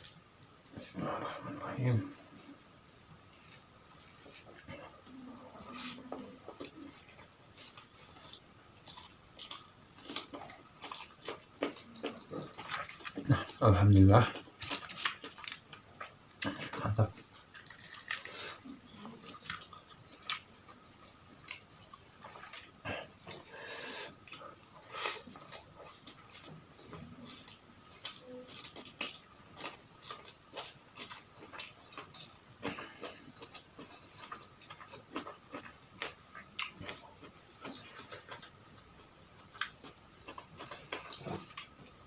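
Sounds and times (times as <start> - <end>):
person chewing and crunching food: 5.6 - 42.0.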